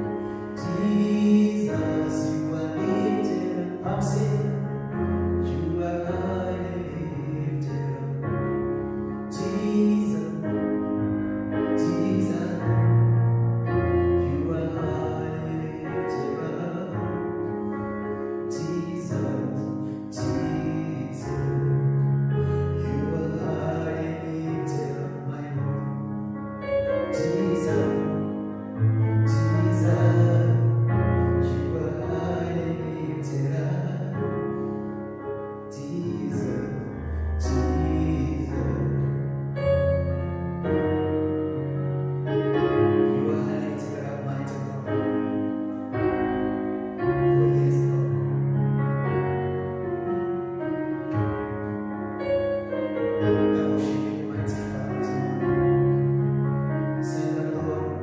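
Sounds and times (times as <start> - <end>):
keyboard playing slow worship song: 0.0 - 58.0.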